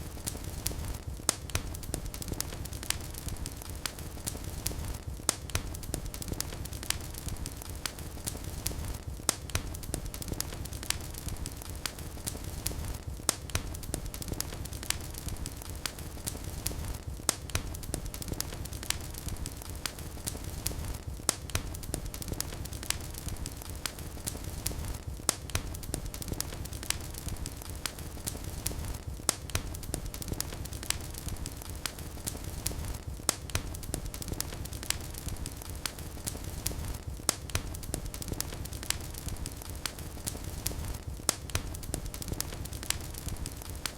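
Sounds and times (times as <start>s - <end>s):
fire crackles and pops: 0.0s - 43.9s
low rumble of flames: 0.0s - 43.9s.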